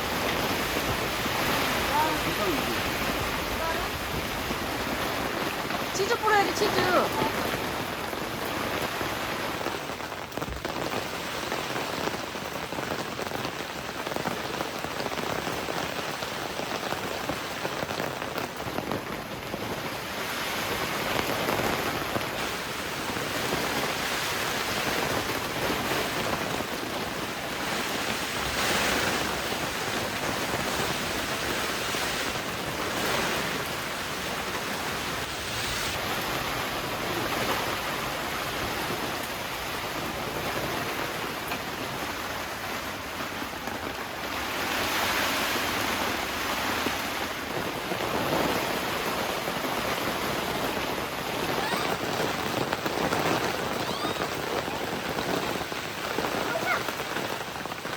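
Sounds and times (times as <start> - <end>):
heavy rain on a tent: 0.0 - 57.9.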